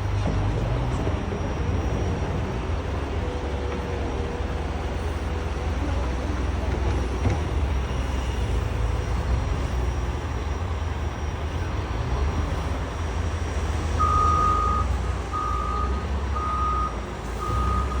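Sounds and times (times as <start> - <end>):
heavy vehicle engine rumbling: 0.0 - 18.0
reversing alarm beeping: 0.0 - 18.0.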